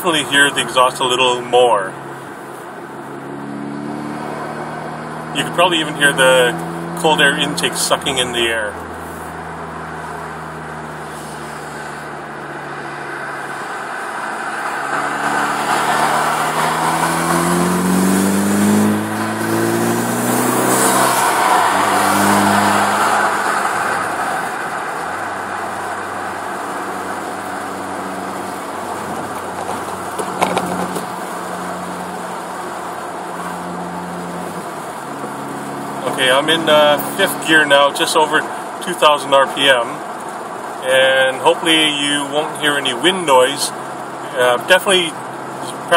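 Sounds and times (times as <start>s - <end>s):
car engine accelerating: 0.0s - 45.9s
road noise: 0.0s - 45.9s.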